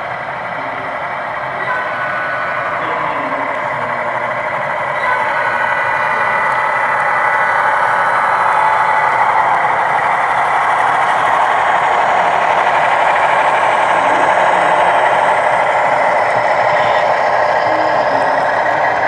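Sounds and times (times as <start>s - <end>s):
diesel engine sound from speakers: 0.0s - 19.0s
model train wheels on track: 0.0s - 19.0s.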